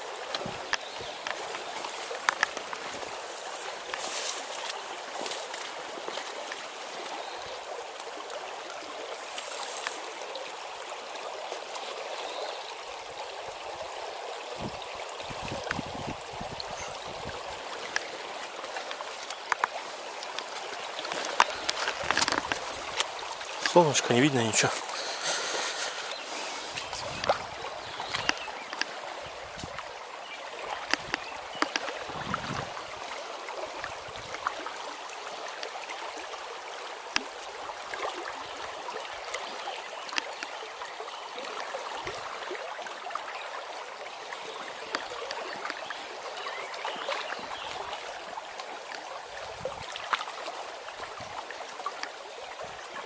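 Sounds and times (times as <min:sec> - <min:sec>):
river rushing over stones: 0:00.0 - 0:53.0.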